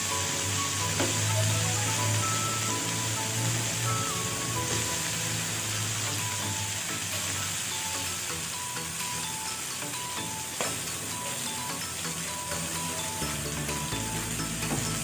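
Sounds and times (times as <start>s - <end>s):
soft background music: 0.0s - 15.0s
vegetables sizzling in oil: 0.0s - 15.0s.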